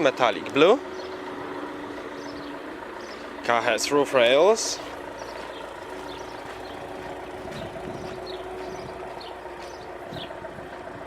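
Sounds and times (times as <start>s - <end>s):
mechanical hum with held tones: 0.0s - 11.0s.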